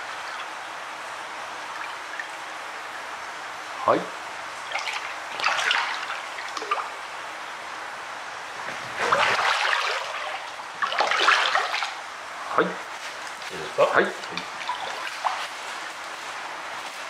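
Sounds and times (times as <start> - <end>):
water splashing and sloshing: 0.0 - 3.8, 4.4 - 17.0.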